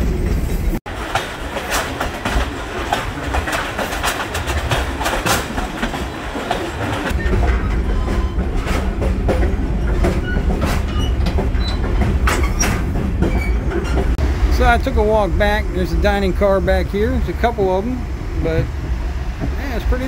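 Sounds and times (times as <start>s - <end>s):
train cars rattling and knocking: 0.0s - 20.0s
train wheels clacking on rails: 0.0s - 20.0s
low rumble through gangway plates: 0.1s - 20.0s.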